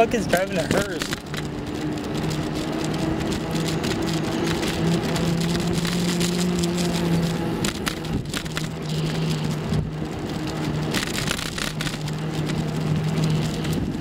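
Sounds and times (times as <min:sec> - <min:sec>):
bicycle clicks and rattles: 0:00.0 - 0:14.0
bicycle rolling noise: 0:00.0 - 0:14.0
low hum: 0:00.0 - 0:14.0.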